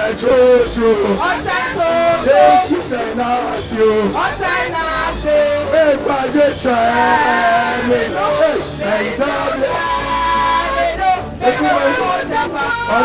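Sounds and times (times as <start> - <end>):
people calling out: 0.0 - 13.0
voices singing together: 0.0 - 13.0.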